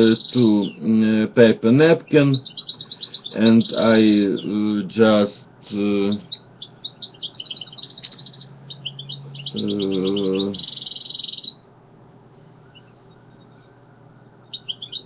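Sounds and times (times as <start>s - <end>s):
small bird chirping: 0.0s - 11.7s, 12.6s - 15.0s.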